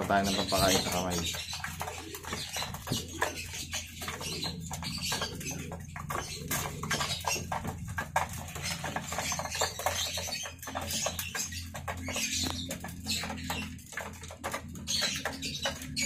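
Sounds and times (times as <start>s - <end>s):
pigeons pecking grain: 0.0s - 16.0s.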